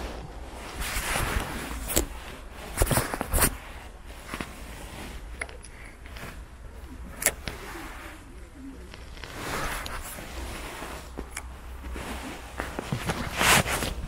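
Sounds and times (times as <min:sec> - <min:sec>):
handling rustles: 0:00.0 - 0:14.0.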